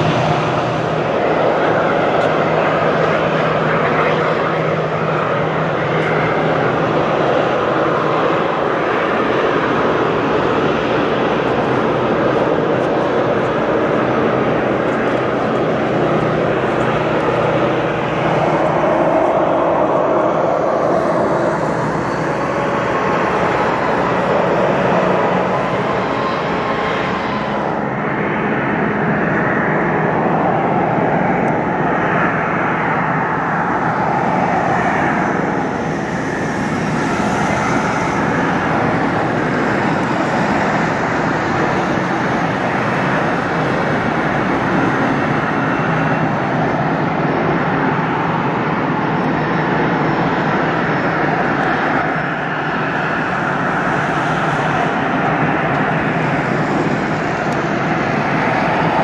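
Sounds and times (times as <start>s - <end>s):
jet engines rushing: 0.0s - 59.0s
low hum: 0.0s - 59.0s.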